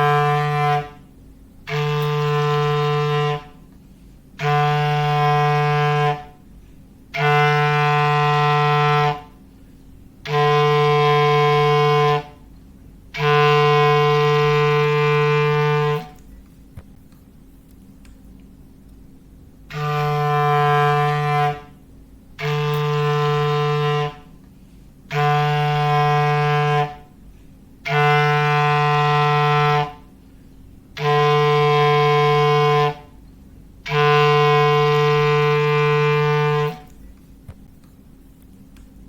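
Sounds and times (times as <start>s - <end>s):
foghorn blasts: 0.0s - 16.2s, 19.6s - 37.0s.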